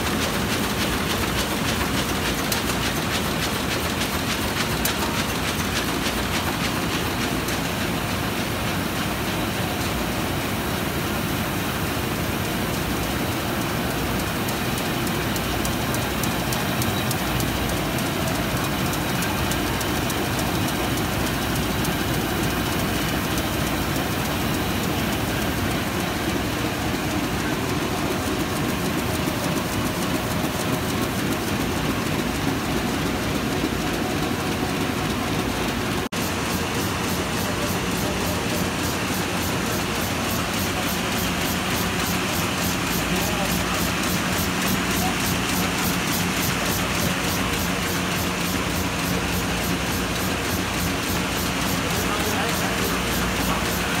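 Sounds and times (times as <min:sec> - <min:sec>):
printing press clattering: 0:00.0 - 0:10.8, 0:11.6 - 0:54.0.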